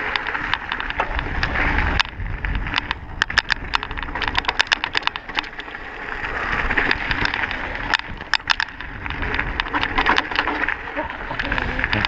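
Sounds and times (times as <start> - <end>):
bike clicking and rattling: 0.0 - 12.0
bike tyres on dirt: 0.0 - 12.0.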